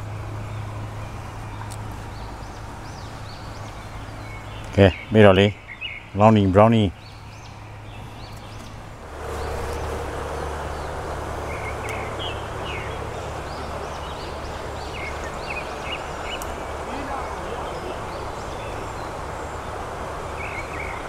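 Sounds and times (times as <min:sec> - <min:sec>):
small birds chirping: 0:00.0 - 0:21.0
stream rushing: 0:00.0 - 0:21.0.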